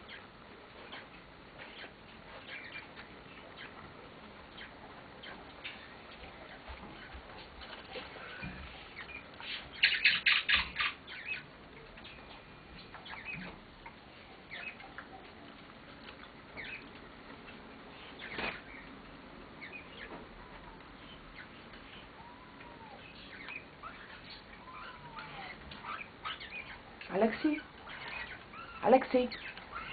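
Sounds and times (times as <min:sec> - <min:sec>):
parakeet chirps: 0:00.0 - 0:03.8, 0:04.5 - 0:07.1, 0:08.2 - 0:15.4, 0:16.2 - 0:19.0, 0:19.6 - 0:29.9.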